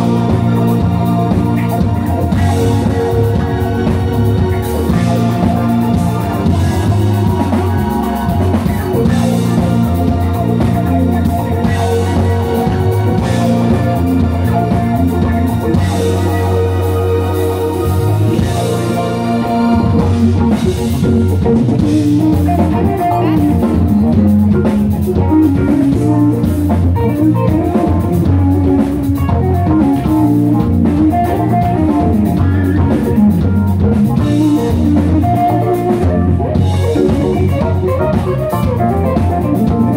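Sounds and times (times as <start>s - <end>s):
bass guitar: 0.0s - 39.9s
drum kit: 0.0s - 39.9s
electric guitar: 0.0s - 39.9s
keyboards: 0.0s - 39.9s.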